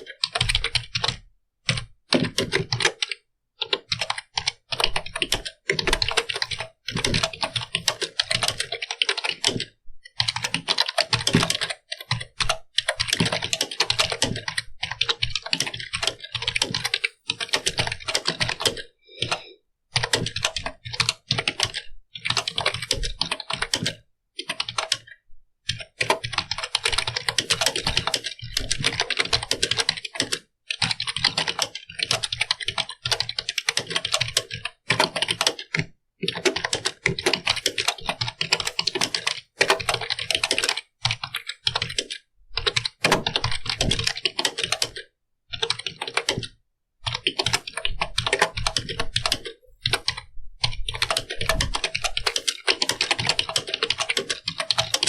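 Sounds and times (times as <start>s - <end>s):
fast typing on keyboard: 0.0s - 55.0s.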